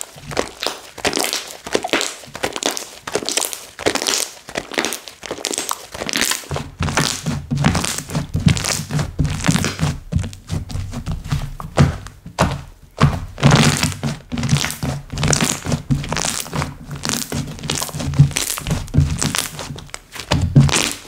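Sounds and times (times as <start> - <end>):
slime squeezed by hand crackling: 0.0 - 21.0.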